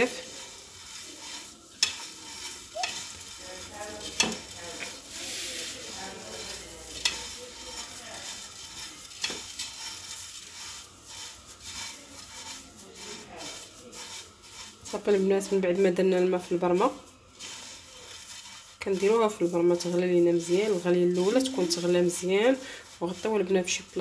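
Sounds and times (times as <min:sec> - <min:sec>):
hands rustling dry noodles: 0:00.0 - 0:24.0.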